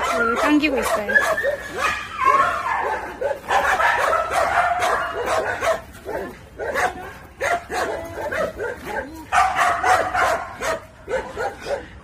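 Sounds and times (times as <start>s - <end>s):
dog whining and yelping: 0.0s - 11.9s.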